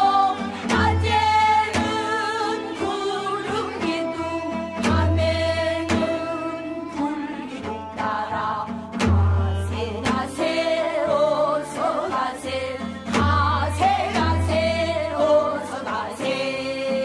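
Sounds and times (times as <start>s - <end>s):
instrumental accompaniment: 0.0s - 17.0s
person singing with vibrato: 0.0s - 17.0s.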